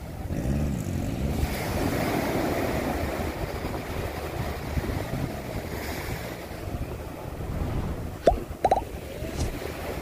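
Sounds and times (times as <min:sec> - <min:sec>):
motorboat engine humming: 0:00.0 - 0:10.0
small waves breaking on sand: 0:00.8 - 0:10.0
wind buffeting microphone: 0:01.4 - 0:10.0.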